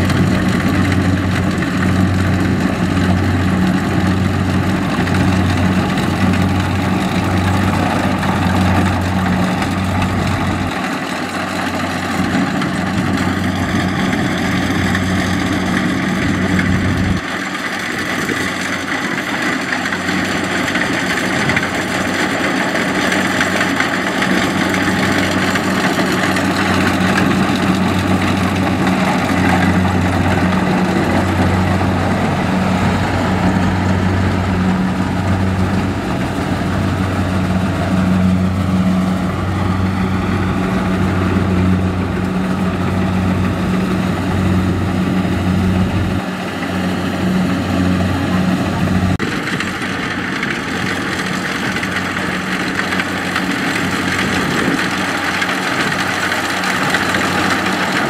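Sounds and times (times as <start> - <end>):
cutter and threshing drum noise: 0.0 - 58.0
diesel engine humming: 0.0 - 58.0.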